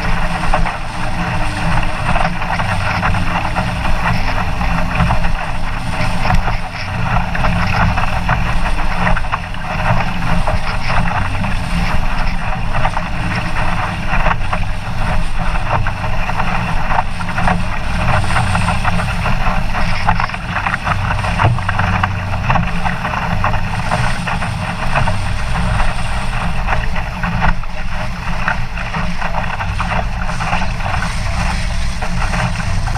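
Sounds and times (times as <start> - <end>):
boat hull splashing through water: 0.0 - 32.9
wind buffeting microphone: 0.0 - 32.9.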